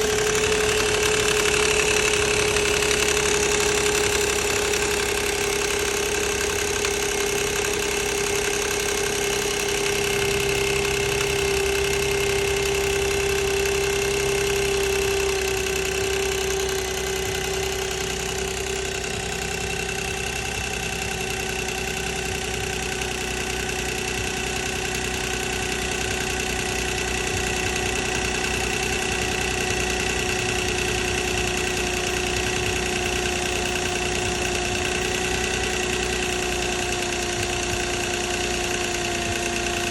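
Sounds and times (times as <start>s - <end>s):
car engine idling: 0.0s - 39.9s
timing chain rattle and whine: 0.0s - 39.9s.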